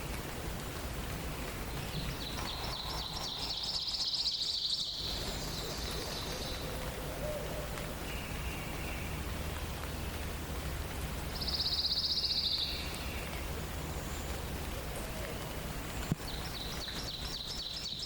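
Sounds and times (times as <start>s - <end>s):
forest ambience hiss: 0.0s - 18.0s.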